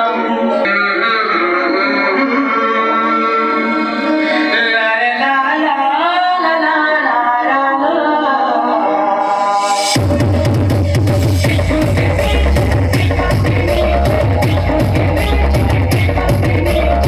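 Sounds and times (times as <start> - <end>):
song with melodic singing: 0.0 - 17.0.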